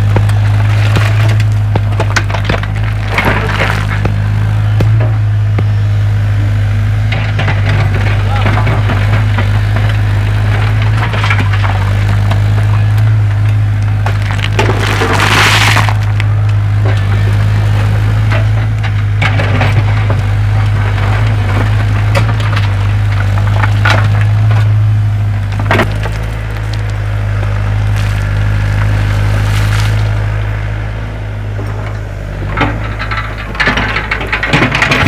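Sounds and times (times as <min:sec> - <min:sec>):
excavator engine droning: 0:00.0 - 0:35.0
wood cracking and splintering: 0:00.0 - 0:35.0.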